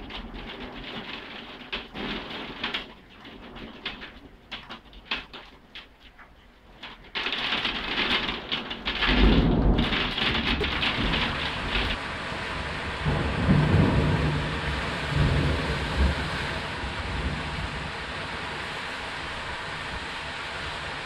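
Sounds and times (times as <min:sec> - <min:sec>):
low thunder rumbling: 0:00.0 - 0:05.4, 0:07.1 - 0:21.0
heavy rain pouring: 0:00.0 - 0:21.0.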